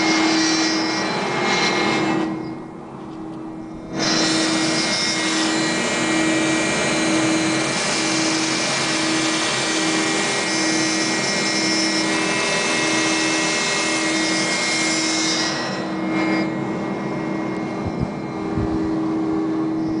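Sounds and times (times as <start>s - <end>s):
cnc router whirring: 0.0s - 20.0s
steady hum: 0.0s - 20.0s.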